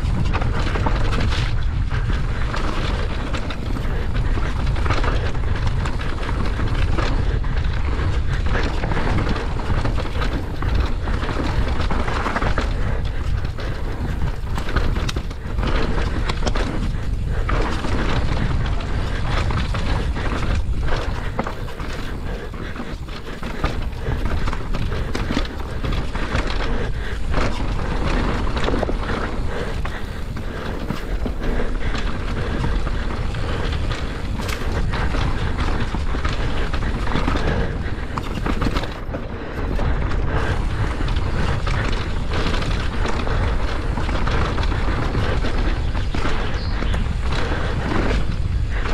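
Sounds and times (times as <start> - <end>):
bike knocks and rattles: 0.0 - 48.9
bike tyres rolling on dirt: 0.0 - 48.9
wind buffeting microphone: 0.0 - 48.9.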